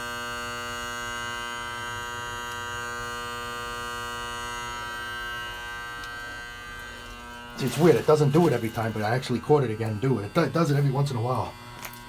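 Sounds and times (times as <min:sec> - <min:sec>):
electrical buzz: 0:00.0 - 0:12.0.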